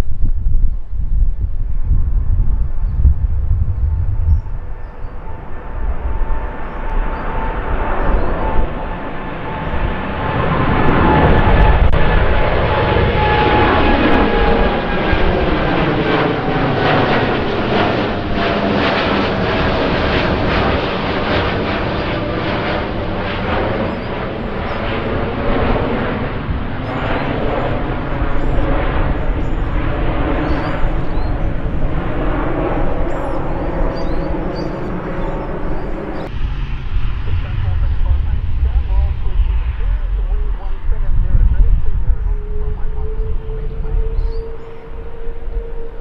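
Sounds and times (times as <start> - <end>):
wind buffeting microphone: 0.0 - 46.0
jet engines whining: 1.6 - 46.0.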